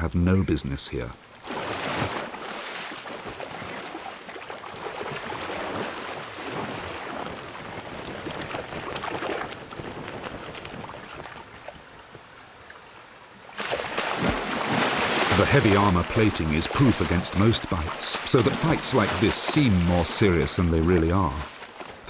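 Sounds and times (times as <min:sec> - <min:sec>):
rushing water: 0:01.2 - 0:22.0
water splashing and churning: 0:01.2 - 0:22.0.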